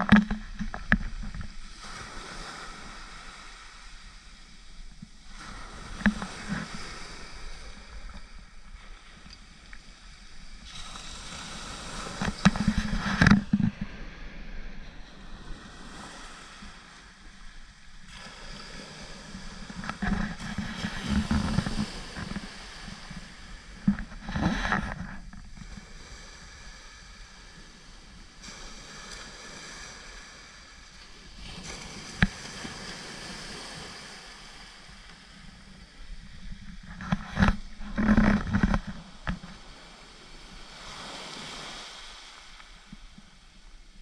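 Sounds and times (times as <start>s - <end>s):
wind on microphone: 0.0s - 27.7s, 28.3s - 44.0s
small waves on shingle beach: 0.0s - 44.0s.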